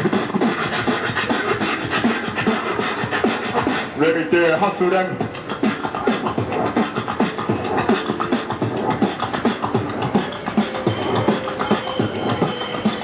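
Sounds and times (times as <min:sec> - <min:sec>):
human beatboxing: 0:00.0 - 0:04.2, 0:04.8 - 0:13.0.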